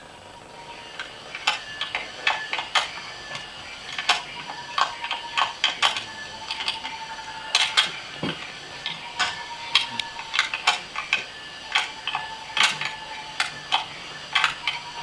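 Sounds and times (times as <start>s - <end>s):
faint steady tone: 0.0s - 15.0s
sharp clicks and ticks: 1.0s - 15.0s.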